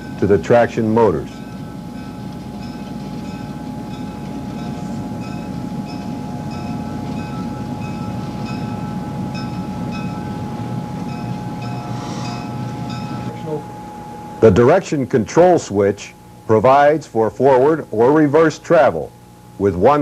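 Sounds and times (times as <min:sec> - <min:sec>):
diesel locomotive rumbling: 0:00.0 - 0:18.9
locomotive bell ringing: 0:00.0 - 0:19.0.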